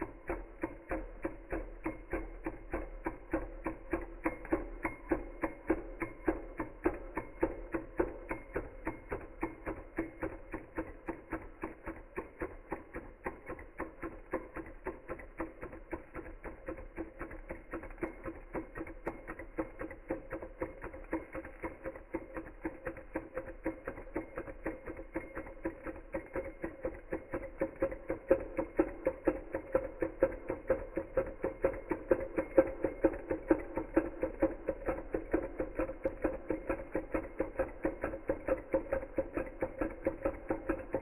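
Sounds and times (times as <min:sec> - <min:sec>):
stirling engine clicking: 0:00.0 - 0:41.0.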